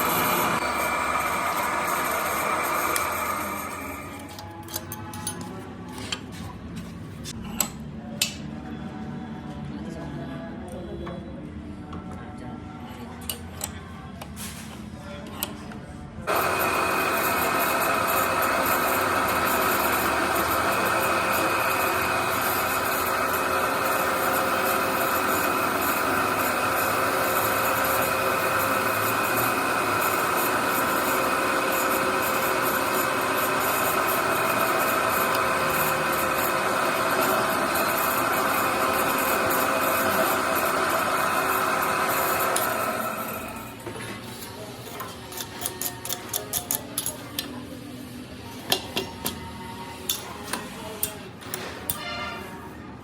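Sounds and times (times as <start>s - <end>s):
workshop machine running with whine: 0.0s - 53.0s.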